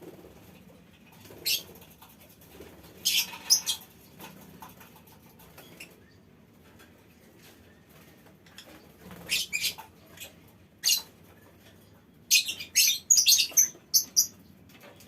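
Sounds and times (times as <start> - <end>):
faint bird chatter: 0.4 - 15.0.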